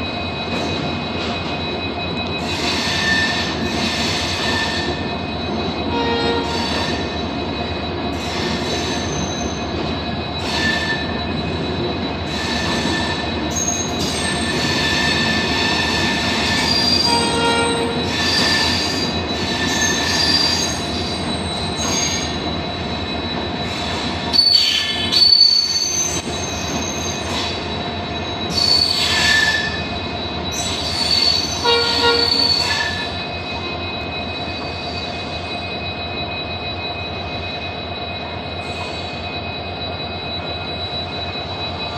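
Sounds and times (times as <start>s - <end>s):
train wheels rolling on rails: 0.0s - 41.9s
high-pitched wheel squeals: 1.6s - 41.9s.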